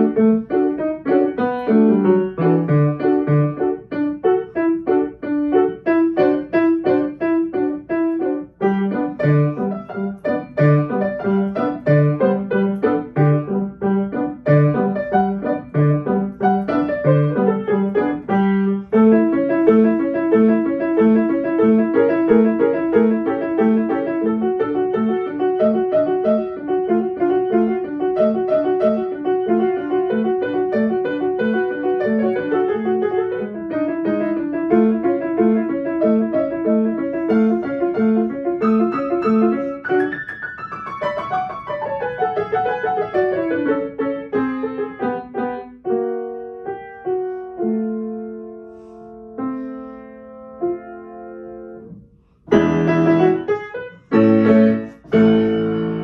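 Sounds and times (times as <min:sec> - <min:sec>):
solo grand piano playing: 0:00.0 - 0:56.0.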